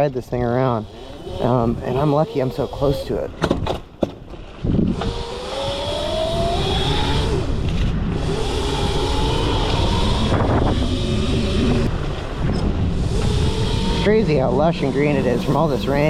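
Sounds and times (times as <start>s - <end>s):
rumbling wind: 0.0s - 16.0s
electric motor whining: 0.4s - 4.0s, 4.6s - 16.0s.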